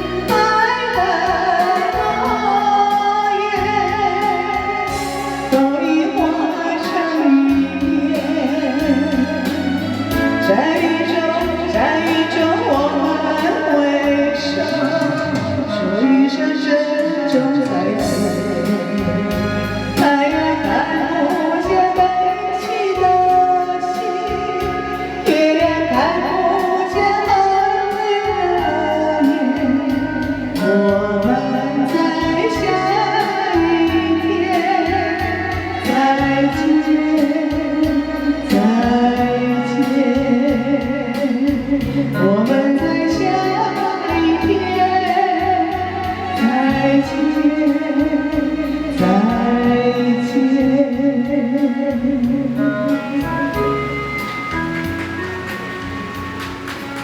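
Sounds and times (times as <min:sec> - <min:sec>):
slow pop song: 0:00.0 - 0:57.0.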